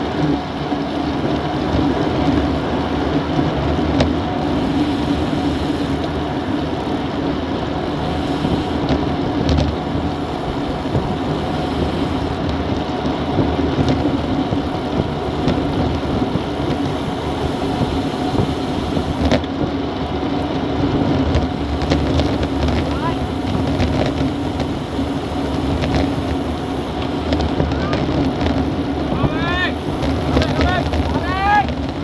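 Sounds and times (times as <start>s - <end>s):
road and tyre noise: 0.0s - 32.0s
wind rushing over microphone: 0.0s - 32.0s.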